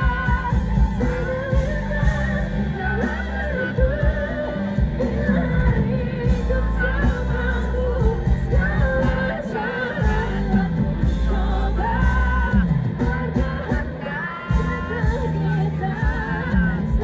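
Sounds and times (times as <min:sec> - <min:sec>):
heavy bass: 0:00.0 - 0:17.0
live pop band: 0:00.0 - 0:17.0
woman singing into microphone: 0:00.0 - 0:17.0.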